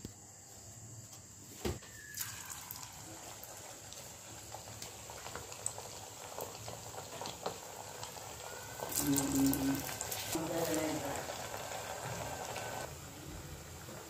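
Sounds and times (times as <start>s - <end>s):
hot oil sizzling and bubbling: 1.8s - 14.0s.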